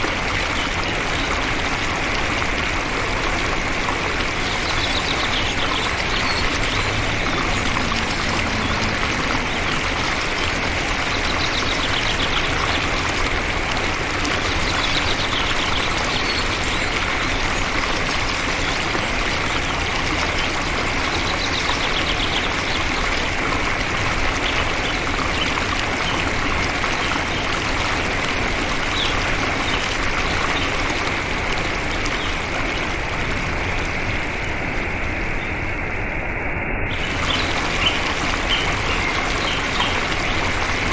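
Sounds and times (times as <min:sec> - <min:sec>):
water rushing: 0:00.0 - 0:36.0, 0:36.9 - 0:40.9.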